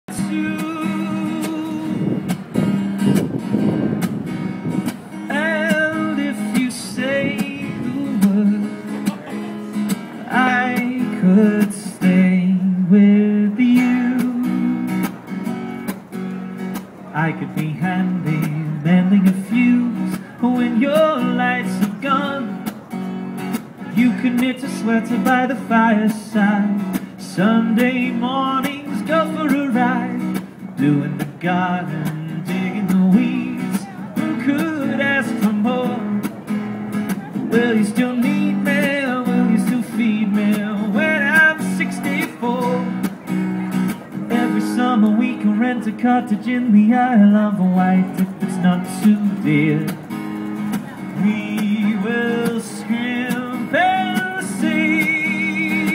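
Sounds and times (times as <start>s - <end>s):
man singing: 0.1s - 2.3s, 5.1s - 15.0s, 17.1s - 22.8s, 23.8s - 36.5s, 37.1s - 43.2s, 44.1s - 55.9s
acoustic guitar strumming: 0.1s - 55.9s.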